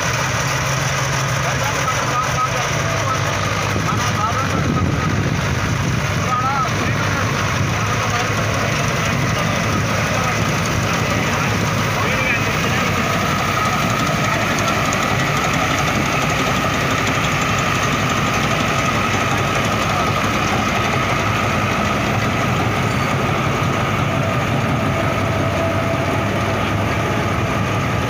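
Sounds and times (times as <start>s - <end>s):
harvester whine: 0.0s - 28.0s
tractor diesel engine under load: 0.0s - 28.0s.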